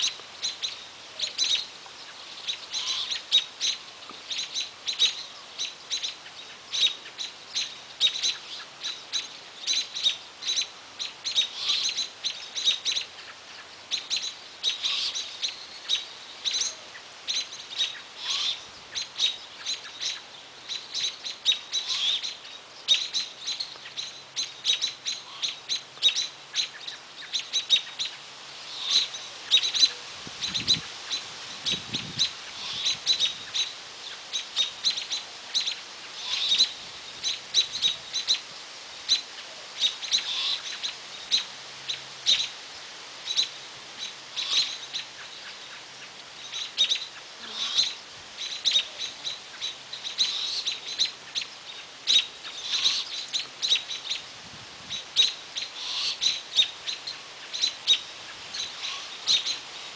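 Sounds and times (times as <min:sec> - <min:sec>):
small birds chirping rapidly: 0:00.0 - 0:59.9.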